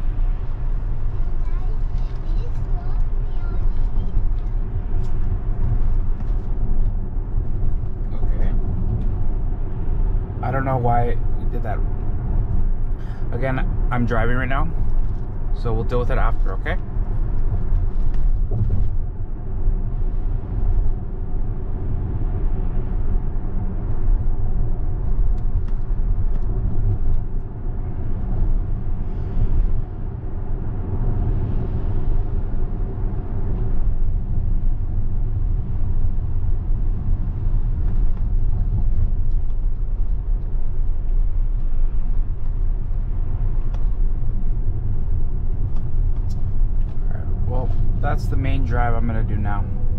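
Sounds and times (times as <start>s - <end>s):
tyres rumbling on wet road: 0.0s - 49.9s.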